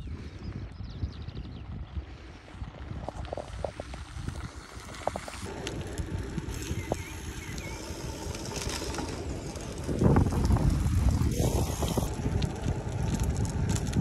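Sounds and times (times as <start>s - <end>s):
wind buffeting microphone: 0.0s - 14.0s
bicycle tyres rolling on gravel: 0.1s - 14.0s
gravel clicks: 0.1s - 14.0s.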